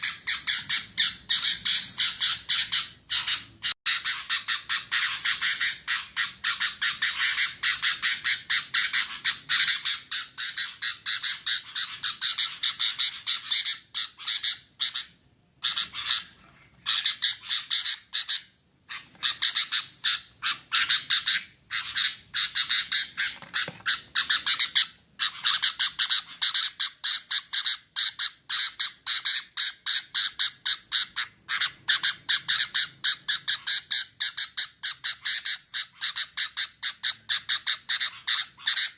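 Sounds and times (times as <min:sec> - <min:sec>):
bulbul calling: 0:00.0 - 0:38.9.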